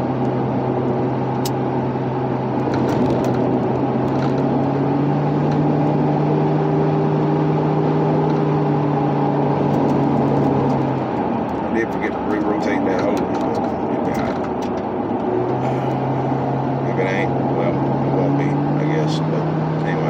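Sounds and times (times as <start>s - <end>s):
car engine hum: 0.0s - 20.0s
tyre and road noise: 0.0s - 20.0s.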